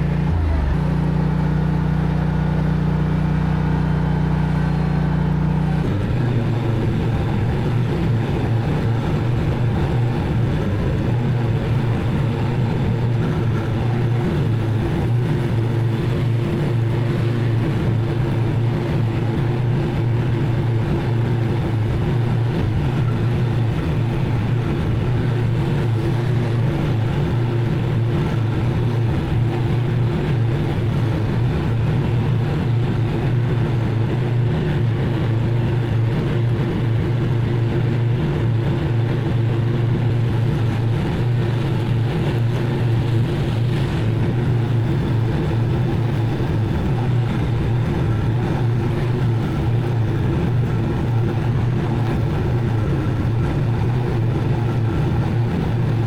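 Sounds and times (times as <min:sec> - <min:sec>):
mower engine running: 0:00.0 - 0:56.0.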